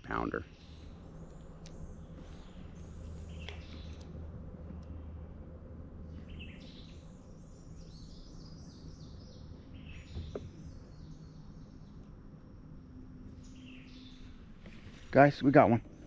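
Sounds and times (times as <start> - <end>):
low steady hum: 0.0 - 16.0
songbirds singing: 0.0 - 16.0.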